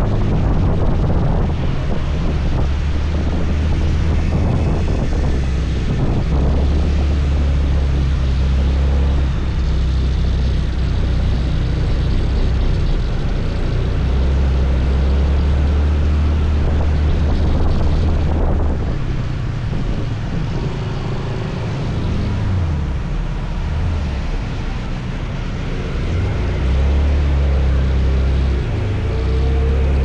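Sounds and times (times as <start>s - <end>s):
rushing wind: 0.0s - 30.0s
scooter engine drone: 0.0s - 30.0s.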